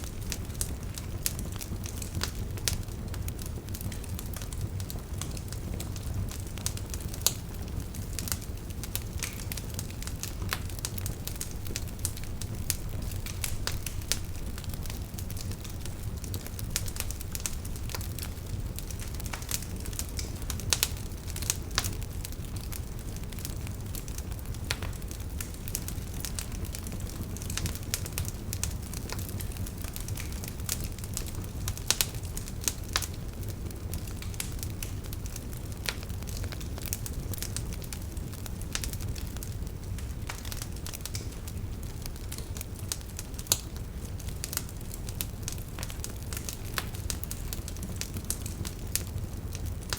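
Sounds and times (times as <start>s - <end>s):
low rumble of flame: 0.0s - 49.9s
wood fire crackling: 0.0s - 49.9s.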